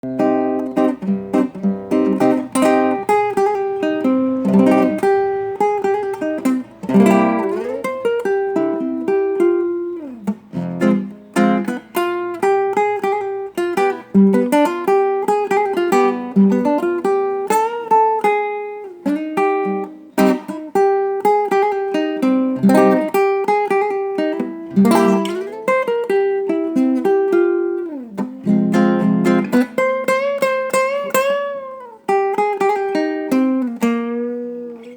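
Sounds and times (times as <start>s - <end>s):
plucked guitar melody: 0.0s - 34.9s.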